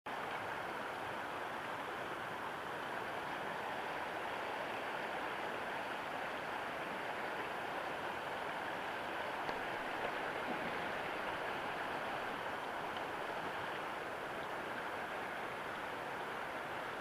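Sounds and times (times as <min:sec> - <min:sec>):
river rushing over rocks: 0:00.1 - 0:17.0.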